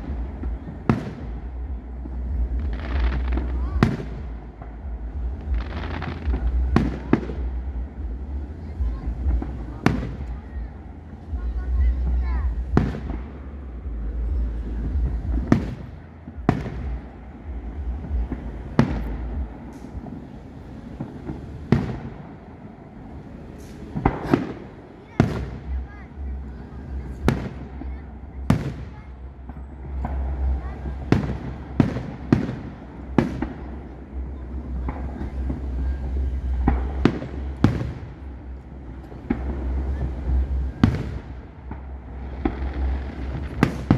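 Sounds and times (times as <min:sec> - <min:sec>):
fireworks bursting bangs: 0:00.0 - 0:43.9
low rumble: 0:00.0 - 0:43.9.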